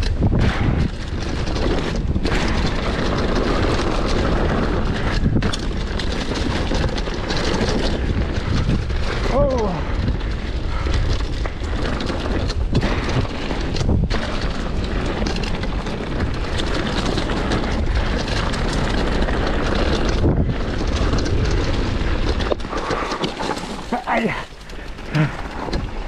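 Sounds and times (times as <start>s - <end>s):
mountain bike rattling on rough trail: 0.0s - 26.0s
wind rushing over microphone: 0.0s - 26.0s.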